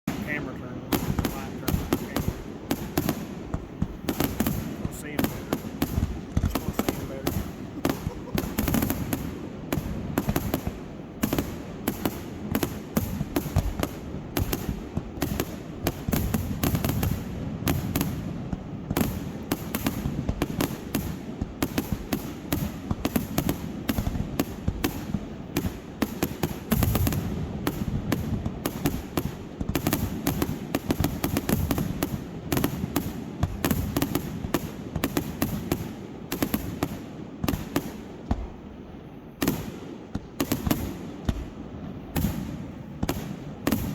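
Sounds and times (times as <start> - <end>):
distant fireworks booms: 0.1 - 43.9
fireworks bangs and crackles: 0.1 - 43.9.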